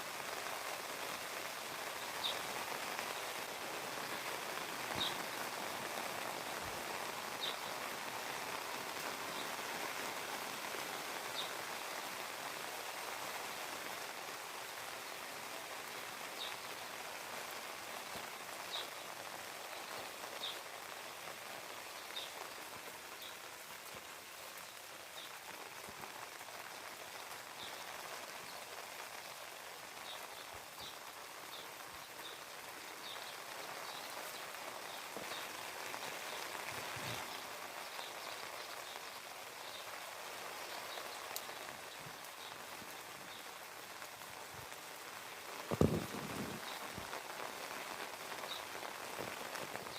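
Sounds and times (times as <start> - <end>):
rain pattering: 0.0 - 49.9.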